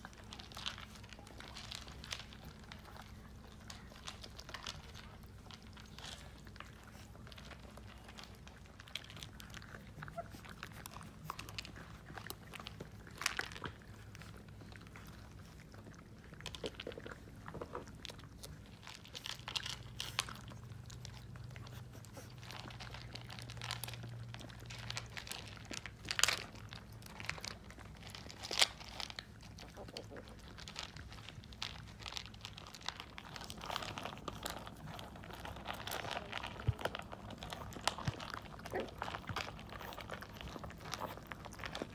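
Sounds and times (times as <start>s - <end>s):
puppies crunching dry kibble: 0.0s - 41.9s.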